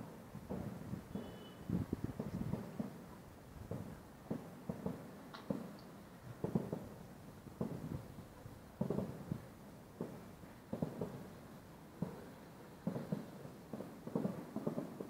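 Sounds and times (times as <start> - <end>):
distant fireworks booms and pops: 0.0 - 15.0.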